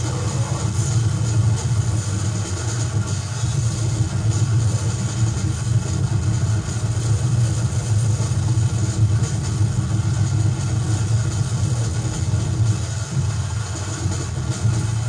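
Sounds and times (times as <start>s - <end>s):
distorted noise music drone: 0.0s - 15.0s.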